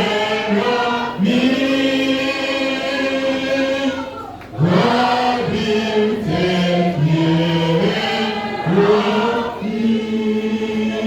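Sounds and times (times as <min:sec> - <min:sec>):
choir singing a slow hymn: 0:00.0 - 0:11.0.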